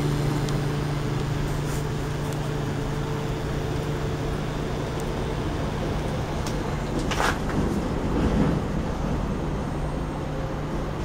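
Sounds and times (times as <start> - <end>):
cooling fan noise: 0.0 - 11.0
microwave transformer hum: 0.0 - 11.0.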